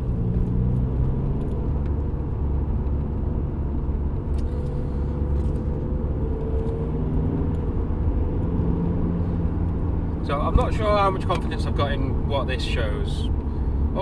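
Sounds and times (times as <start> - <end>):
car engine and road drone: 0.0 - 14.0.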